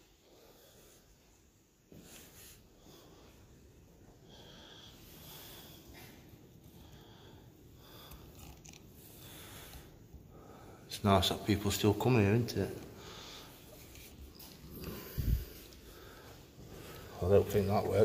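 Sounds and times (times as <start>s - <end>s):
soft breathing: 0.0s - 18.0s.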